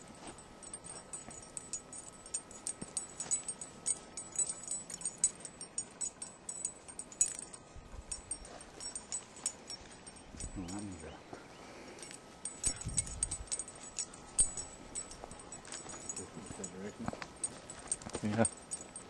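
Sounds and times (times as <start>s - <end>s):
small metal pieces jingling: 0.0s - 11.1s, 12.0s - 19.0s.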